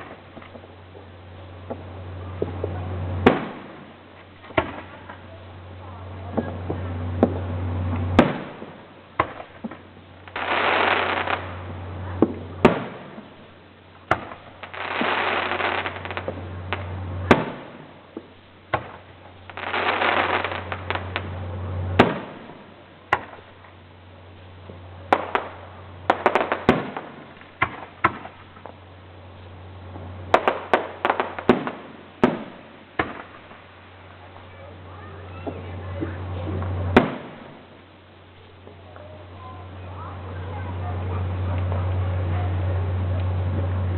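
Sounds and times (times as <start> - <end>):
fireworks bangs: 0.0 - 43.9
fireworks hiss: 0.0 - 43.9.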